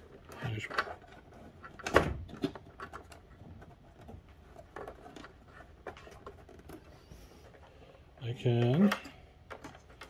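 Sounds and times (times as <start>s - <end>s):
faint clicks and rustles of wires: 0.0s - 10.0s.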